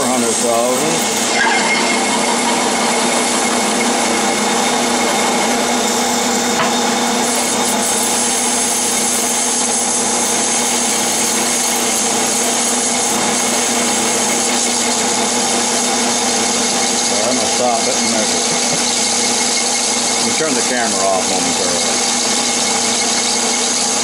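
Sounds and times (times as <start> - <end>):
hiss of metal cutting: 0.0 - 24.0
lathe motor hum: 0.0 - 24.0.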